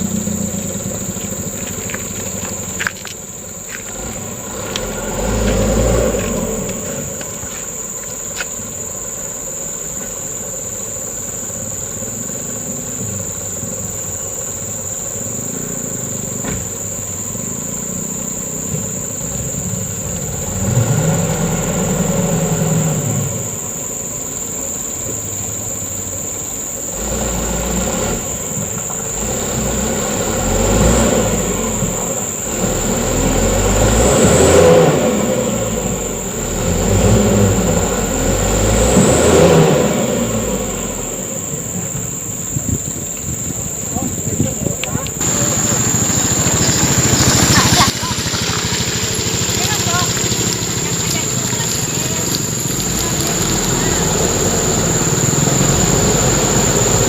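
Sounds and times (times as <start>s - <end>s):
truck diesel engine under load: 0.0s - 57.0s.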